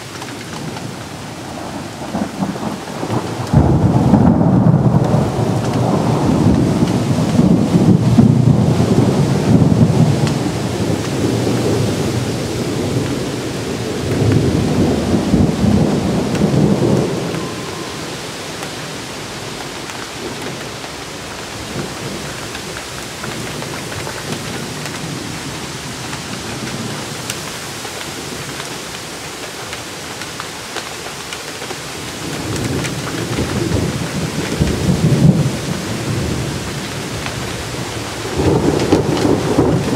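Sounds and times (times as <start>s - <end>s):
thunder rolling: 0.0s - 27.1s, 32.2s - 39.9s
steady rain: 0.0s - 39.9s.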